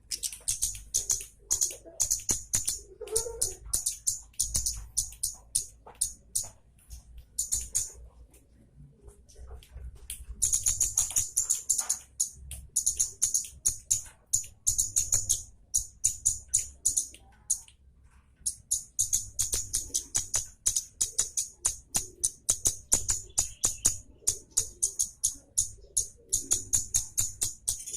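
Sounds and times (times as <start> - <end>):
bird chipping and chattering: 0.0 - 8.0, 10.4 - 17.7, 18.4 - 27.9.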